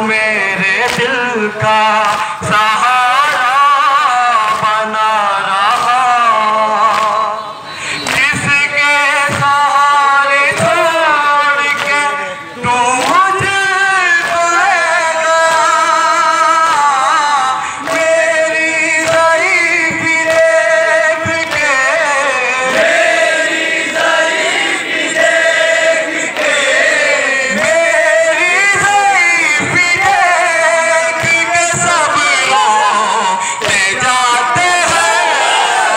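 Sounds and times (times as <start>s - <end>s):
men chanting a lament: 0.0s - 35.9s.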